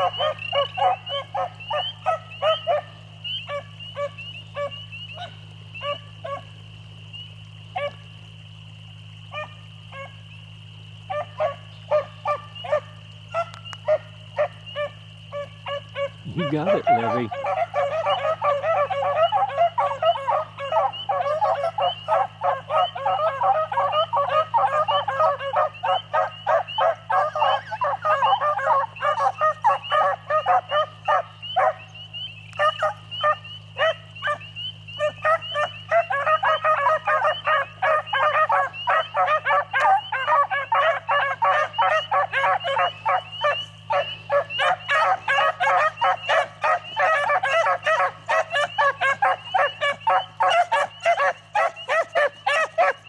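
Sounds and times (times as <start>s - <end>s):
dogs baying and yelping: 0.0s - 53.0s.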